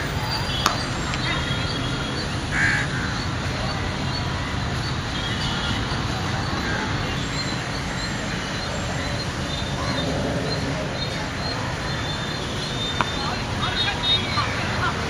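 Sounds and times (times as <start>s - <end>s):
distant traffic rumble: 0.0s - 15.0s
small birds chirping: 0.2s - 15.0s.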